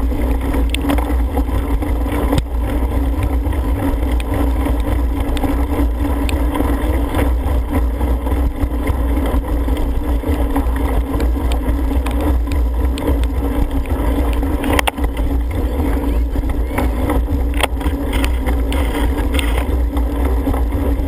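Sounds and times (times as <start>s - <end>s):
bike tyres on wet pavement: 0.0s - 21.0s
wind buffeting microphone: 0.0s - 21.0s.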